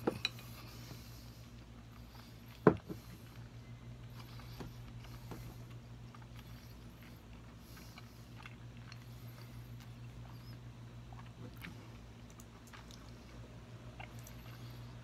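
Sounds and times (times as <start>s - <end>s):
person chewing noodles: 0.0s - 15.0s
steady low hum: 0.0s - 15.0s.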